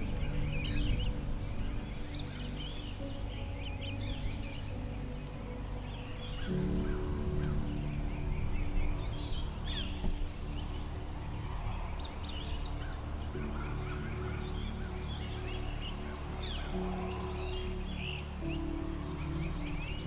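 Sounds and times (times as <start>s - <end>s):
low steady drone: 0.0s - 20.0s
songbirds chirping and trilling: 0.0s - 20.0s.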